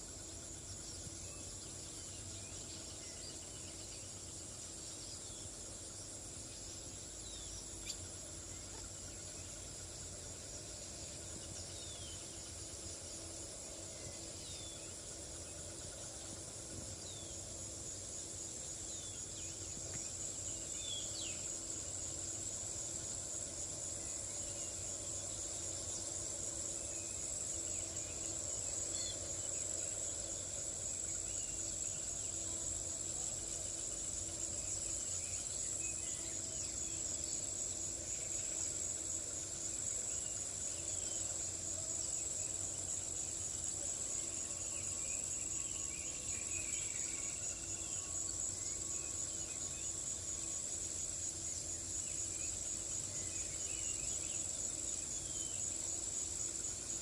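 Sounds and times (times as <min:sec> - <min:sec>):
high-pitched insect trill: 0:00.0 - 0:57.0.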